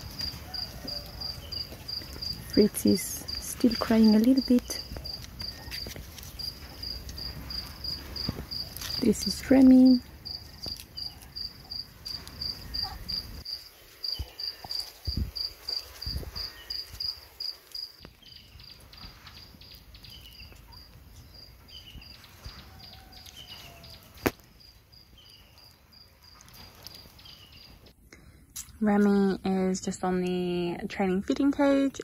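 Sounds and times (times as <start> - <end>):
cricket chirping: 0.0 - 9.2, 9.8 - 23.6, 24.3 - 27.7.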